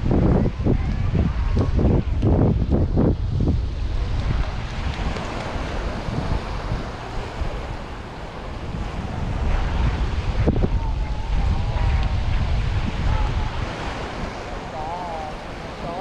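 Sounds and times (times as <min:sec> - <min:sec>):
sea surf washing on shore: 0:00.0 - 0:16.0
wind buffeting microphone: 0:00.0 - 0:16.0.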